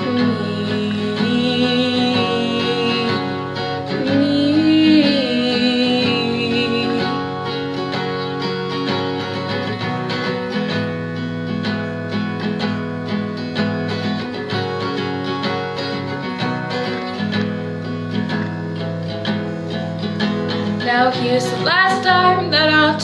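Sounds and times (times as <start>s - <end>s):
plucked acoustic guitar: 0.0s - 23.0s.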